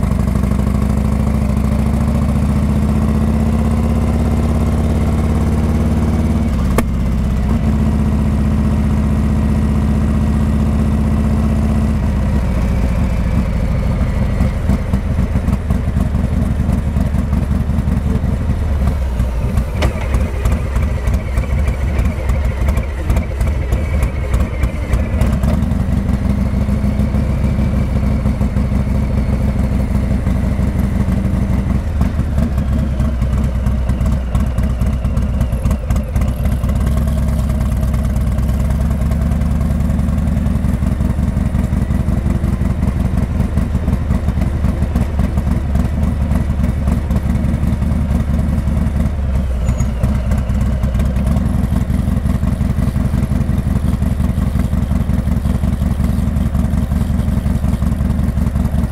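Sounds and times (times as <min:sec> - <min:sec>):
motorcycle engine rumbling: 0:00.0 - 0:58.9.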